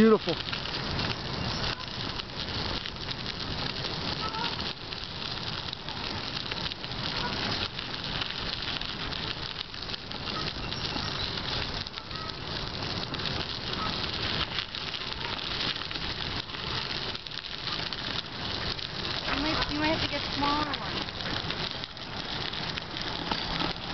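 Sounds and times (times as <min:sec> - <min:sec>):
bicycle tyres rolling on gravel: 0:00.0 - 0:23.9.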